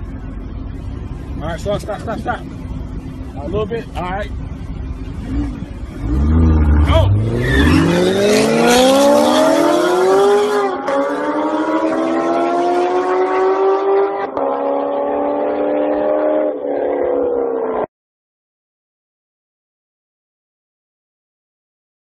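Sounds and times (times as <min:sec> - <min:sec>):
sports car engine accelerating: 0:00.0 - 0:17.9.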